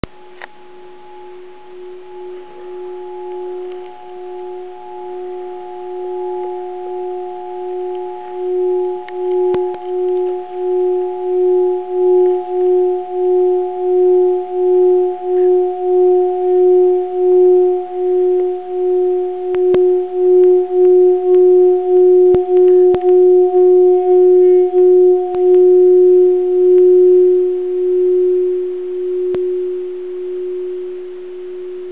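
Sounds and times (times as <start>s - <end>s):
singing bowl steady low tone: 0.0s - 31.9s
mallet ticking against bowl rim: 1.7s - 28.5s.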